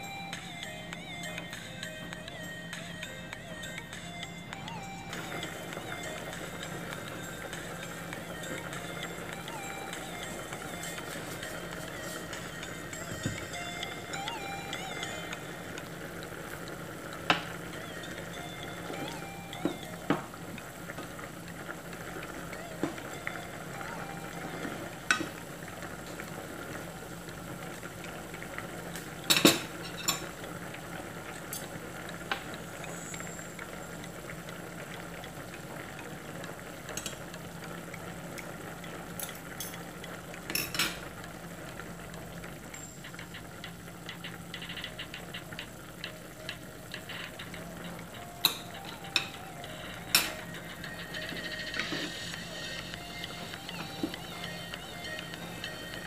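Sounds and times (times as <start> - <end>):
pot bubbling and hissing: 0.0 - 56.0.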